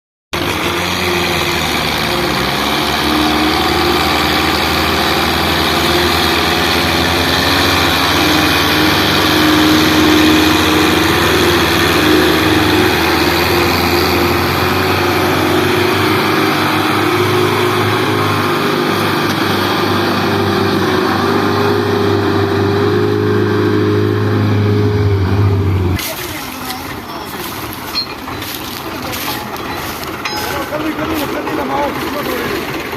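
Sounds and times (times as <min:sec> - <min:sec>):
tractor diesel engine running: 0:00.3 - 0:32.9.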